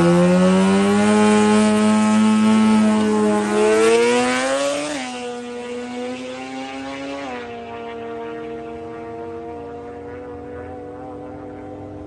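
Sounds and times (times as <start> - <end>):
rotary race engine revving: 0.0 - 12.0.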